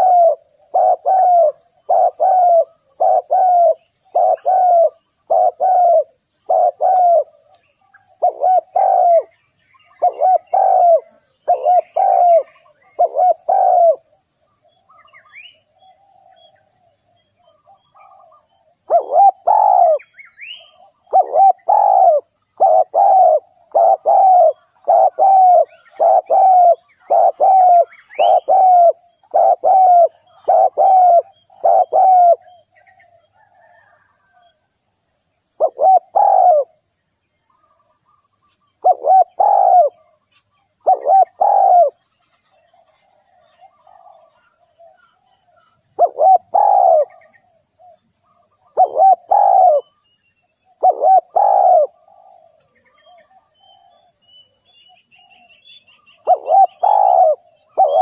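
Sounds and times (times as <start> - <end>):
dove cooing: 0.0 - 7.5, 8.1 - 14.1, 17.5 - 34.5, 35.6 - 36.8, 38.8 - 40.2, 40.8 - 42.0, 42.6 - 50.0, 50.7 - 54.2, 55.2 - 58.0
small birds chirping: 0.0 - 34.6, 37.4 - 58.0.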